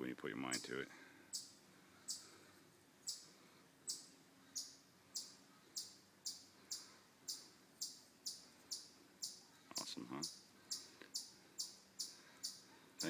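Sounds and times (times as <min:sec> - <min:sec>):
faint high-pitched chirps: 0:00.5 - 0:13.0.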